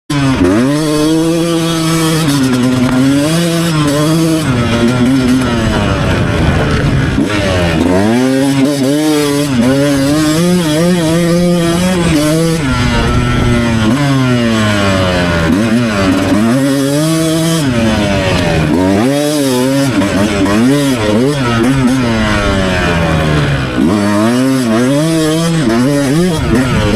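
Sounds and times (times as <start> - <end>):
two-stroke dirt bike revving: 0.1 - 26.9.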